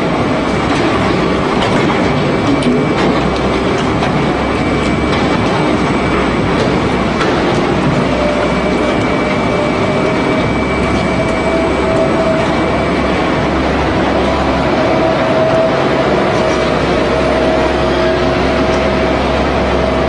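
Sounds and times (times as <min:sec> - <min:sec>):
meat mincer running: 0:00.0 - 0:20.0.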